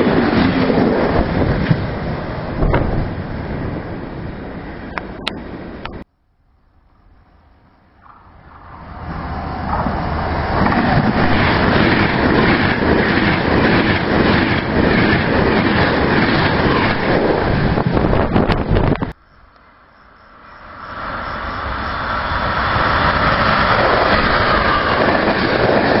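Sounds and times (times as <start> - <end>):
train wheels rushing on rail: 0.0 - 6.0, 8.0 - 19.2, 20.3 - 26.0.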